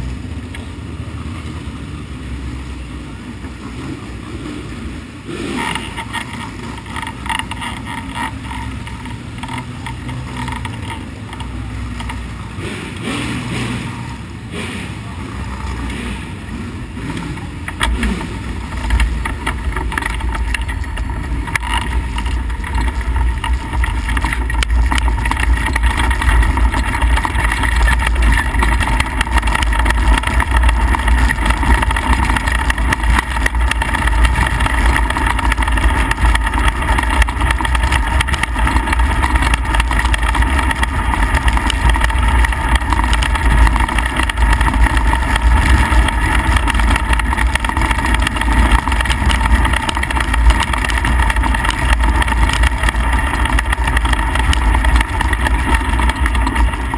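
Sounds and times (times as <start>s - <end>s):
race car engine running: 0.0s - 56.9s.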